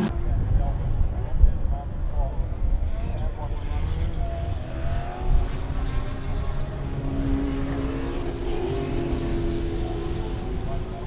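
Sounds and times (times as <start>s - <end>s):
race car engines driving past: 0.0s - 11.0s.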